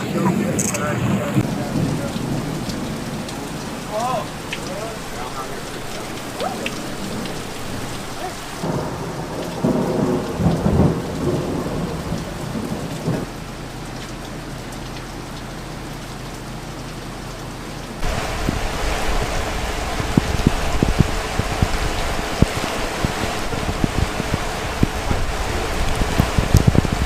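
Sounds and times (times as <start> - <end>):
thunder rolling: 0.0 - 13.3, 18.0 - 27.0
rain falling: 0.0 - 27.0.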